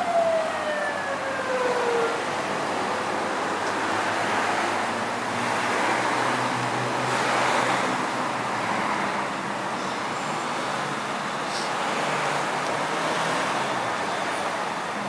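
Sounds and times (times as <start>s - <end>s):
cars driving past: 1.6s - 14.9s.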